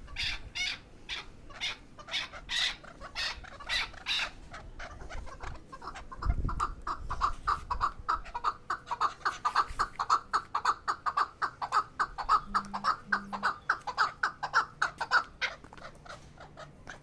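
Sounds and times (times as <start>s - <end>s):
partridge clucking calls: 0.0s - 17.0s.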